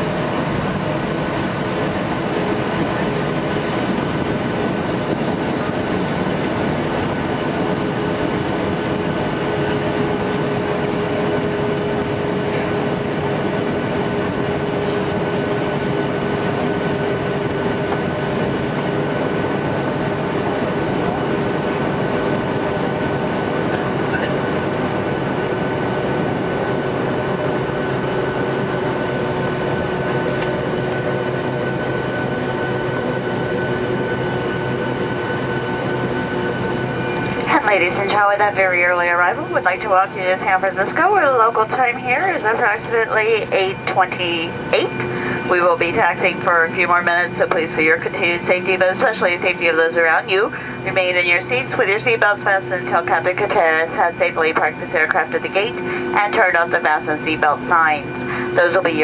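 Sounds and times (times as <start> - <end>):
aircraft cabin rumble: 0.0 - 59.0
jet engine whine: 0.0 - 59.0.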